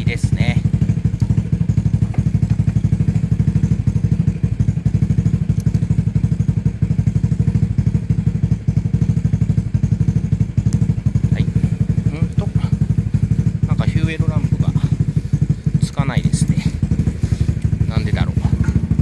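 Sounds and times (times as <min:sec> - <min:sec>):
scooter engine idling: 0:00.0 - 0:19.0.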